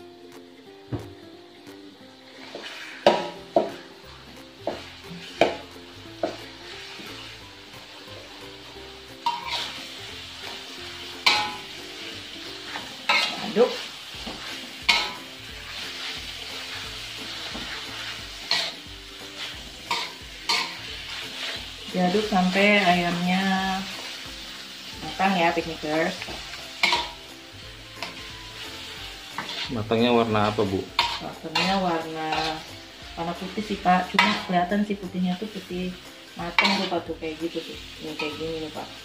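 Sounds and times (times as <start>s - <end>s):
food sizzling in a wok: 0.0s - 39.0s
metal spatula scraping a wok: 2.3s - 24.2s, 24.8s - 29.9s, 30.8s - 34.7s, 35.4s - 39.0s.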